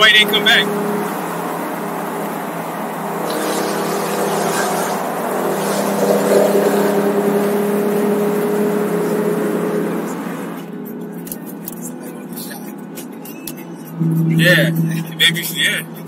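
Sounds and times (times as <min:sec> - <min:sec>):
car engine drone: 0:00.0 - 0:16.0
tyre and road noise: 0:00.0 - 0:16.0.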